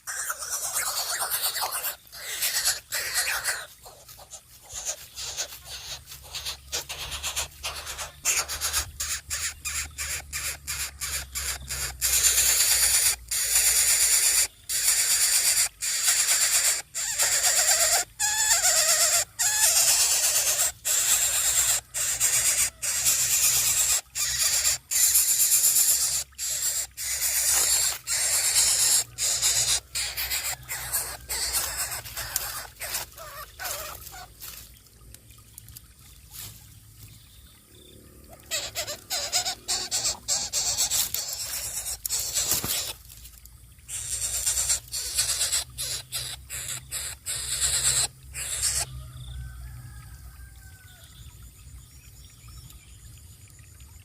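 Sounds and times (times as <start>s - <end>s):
bird raspy hissing begging calls: 0.0s - 34.3s, 38.4s - 43.0s, 43.9s - 48.9s.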